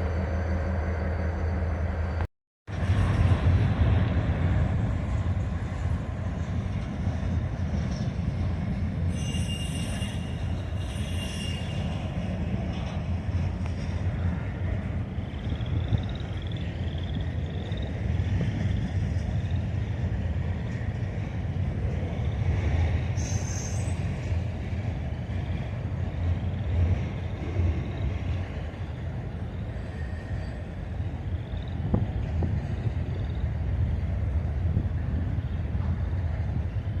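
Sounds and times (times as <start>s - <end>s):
train rolling past: 0.0s - 37.0s.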